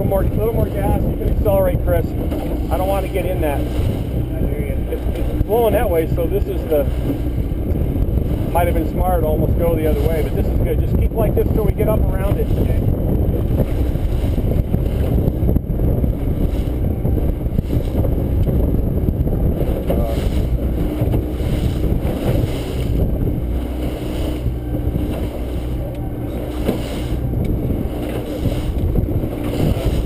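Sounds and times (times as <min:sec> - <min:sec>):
boat motor droning: 0:00.0 - 0:30.0.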